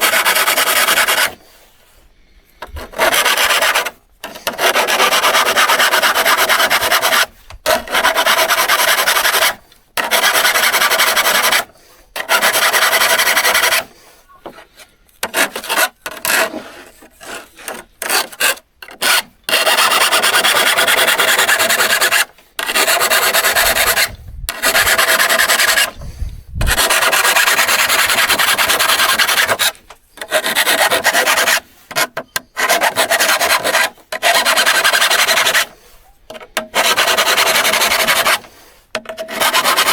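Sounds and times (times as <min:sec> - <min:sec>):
file rasping on saw blade: 0:00.0 - 0:01.6, 0:02.6 - 0:39.9.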